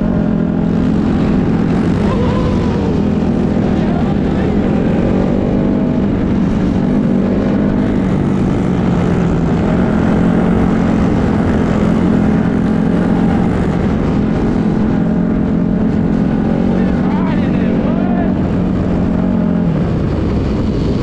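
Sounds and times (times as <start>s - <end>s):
dirt bike engine cruising: 0.0s - 21.0s.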